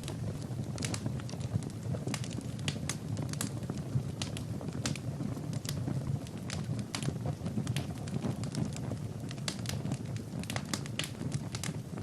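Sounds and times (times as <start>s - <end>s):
fire crackling and popping: 0.0s - 12.0s
low rumble of flames: 0.0s - 12.0s.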